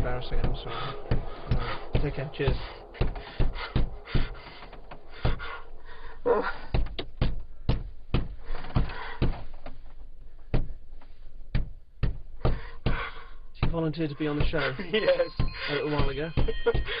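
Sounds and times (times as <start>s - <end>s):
irregular knocks and thumps: 0.0s - 17.0s.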